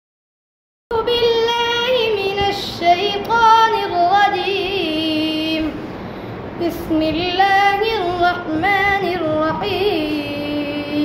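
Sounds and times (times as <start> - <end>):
boy chanting melodic recitation: 0.9 - 5.9, 6.6 - 11.0.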